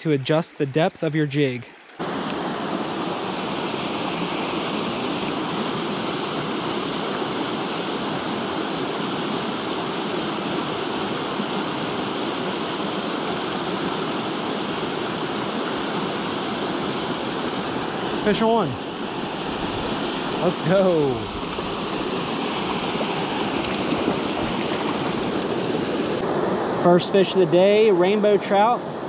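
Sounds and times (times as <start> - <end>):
creek water flowing: 0.0 - 29.0.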